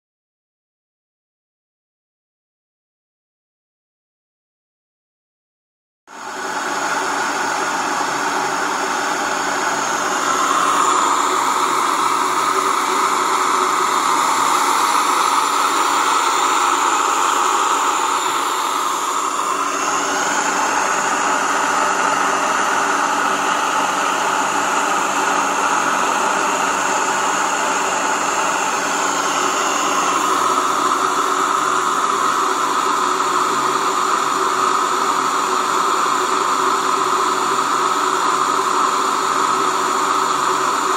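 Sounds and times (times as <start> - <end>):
electric grain mill whirring: 6.1 - 40.9.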